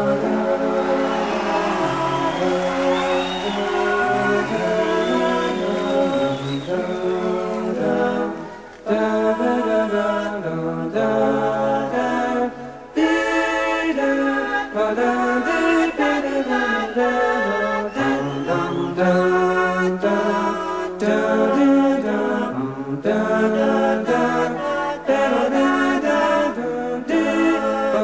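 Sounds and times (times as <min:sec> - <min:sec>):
voices singing wordless harmonies: 0:00.0 - 0:28.0.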